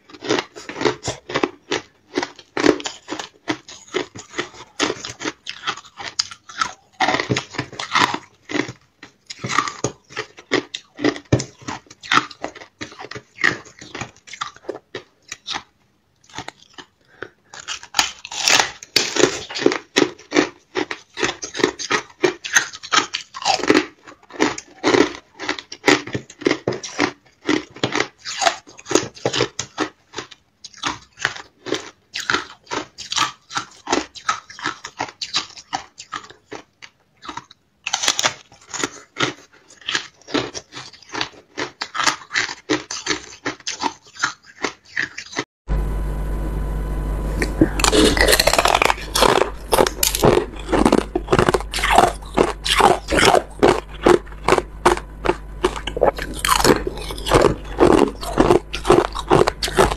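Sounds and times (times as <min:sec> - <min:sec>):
ice crunching while chewed: 0:00.0 - 0:45.4, 0:47.4 - 0:59.9.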